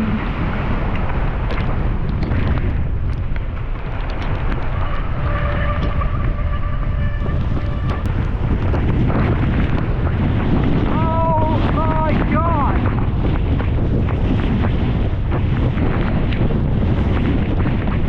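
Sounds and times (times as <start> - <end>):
mountain bike rumbling and rattling: 0.0 - 18.0
wind buffeting microphone: 0.0 - 18.0.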